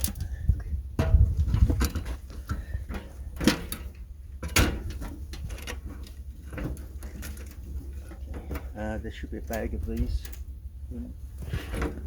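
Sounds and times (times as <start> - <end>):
steady low rumble: 0.0 - 12.0
parts knocking and clattering: 0.9 - 10.6.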